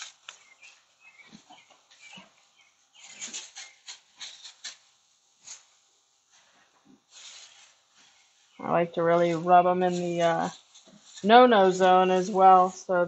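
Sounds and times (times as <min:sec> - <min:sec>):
plastic bag crinkling: 0:00.0 - 0:12.7.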